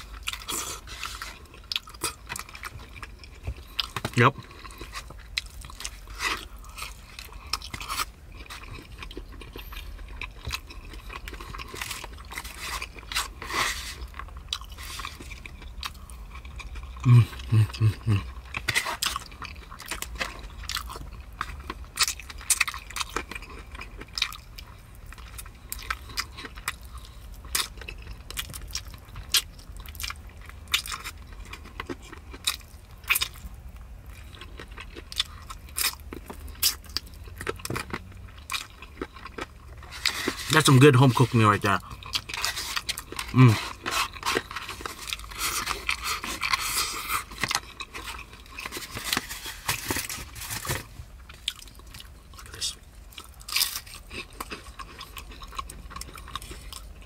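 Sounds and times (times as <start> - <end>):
person chewing and biting: 0.0 - 57.0.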